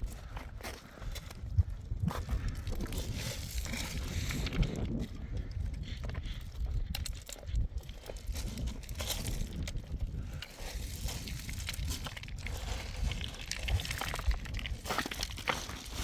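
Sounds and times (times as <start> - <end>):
crunching and crackling: 0.0 - 16.0
wind rumble on microphone: 0.0 - 16.0.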